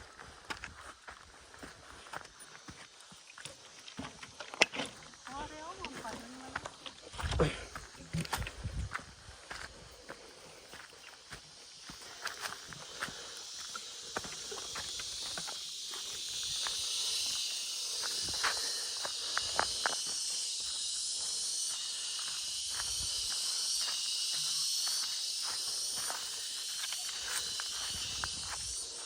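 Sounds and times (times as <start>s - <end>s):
footsteps crunching on ground: 0.0s - 29.0s
insects chorus: 0.0s - 29.0s.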